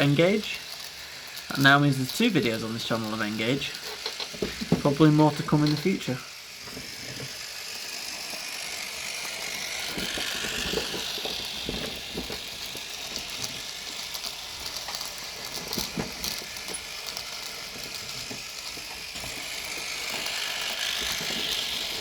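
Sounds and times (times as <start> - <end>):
model train motor hiss: 0.0 - 22.0.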